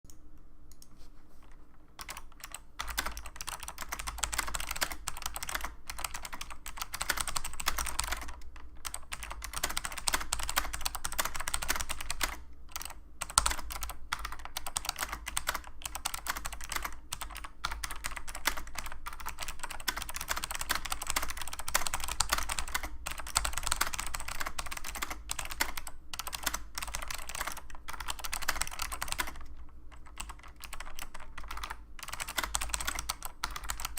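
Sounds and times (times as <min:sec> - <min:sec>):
low steady hum: 0:00.1 - 0:33.9.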